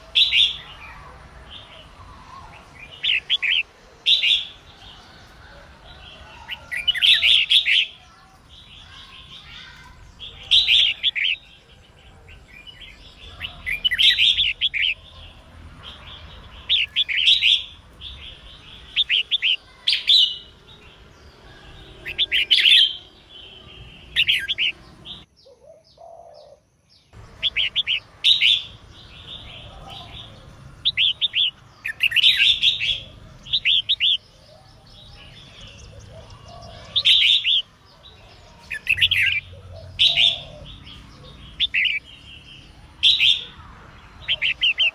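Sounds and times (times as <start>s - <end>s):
bird chirping song: 0.0s - 44.9s.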